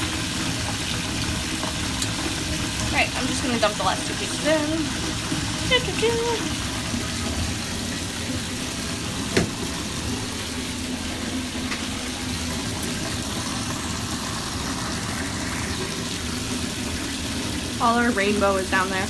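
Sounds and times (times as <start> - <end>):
tap water running into tub: 0.0 - 19.0.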